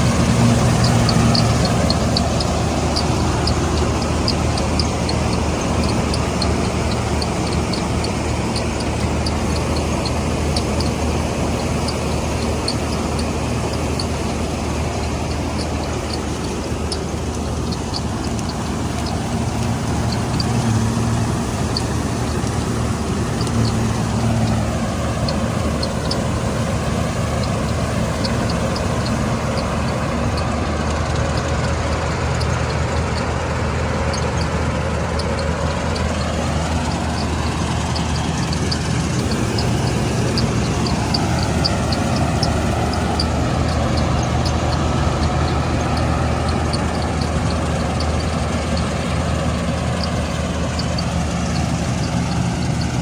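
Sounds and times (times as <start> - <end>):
diesel engine running: 0.0 - 53.0
light rapid machinery ticking: 0.0 - 53.0
machine whine: 0.0 - 53.0.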